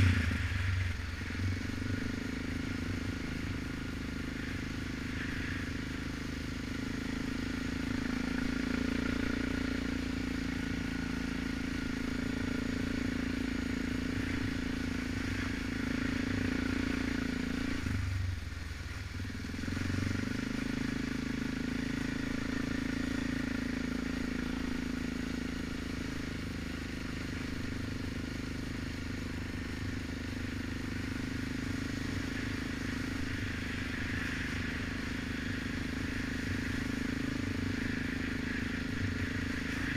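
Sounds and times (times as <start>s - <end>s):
atv engine running: 0.0s - 39.9s
wind: 0.0s - 39.9s.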